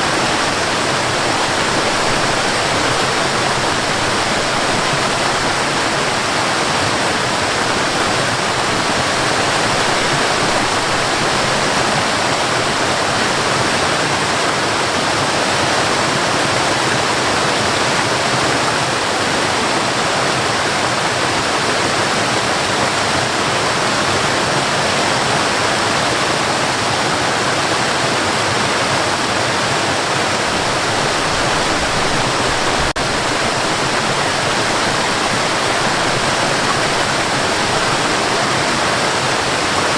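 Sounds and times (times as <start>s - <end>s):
cascading water rushing: 0.0s - 39.9s.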